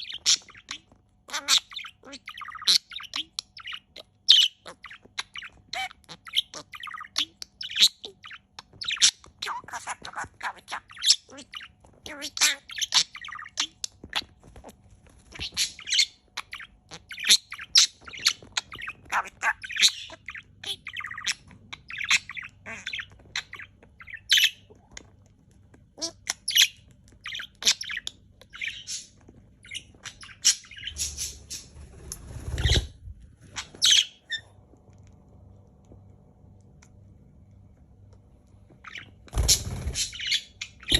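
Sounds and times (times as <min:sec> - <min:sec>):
parakeet chirping and squawking: 0:00.0 - 0:34.8, 0:36.8 - 0:40.9.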